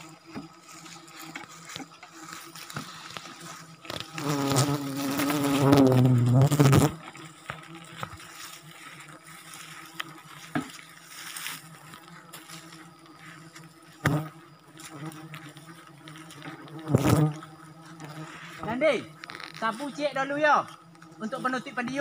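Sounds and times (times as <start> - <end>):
faint insect buzzing: 0.0 - 22.0.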